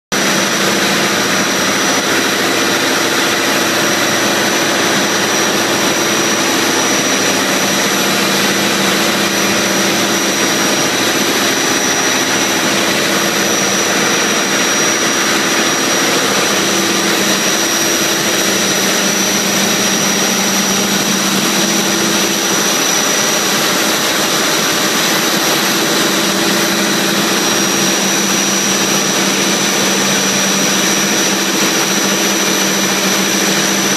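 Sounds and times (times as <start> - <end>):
high whine: 0.1 - 33.9
marine diesel engines drone: 0.2 - 33.9.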